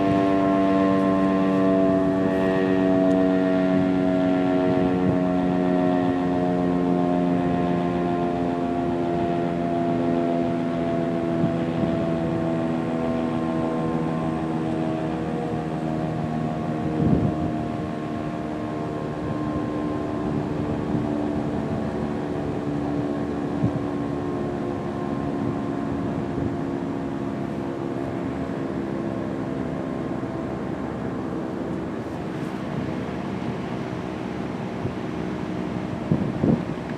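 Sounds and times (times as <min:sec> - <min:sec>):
warning siren alert tone: 0:00.0 - 0:36.9.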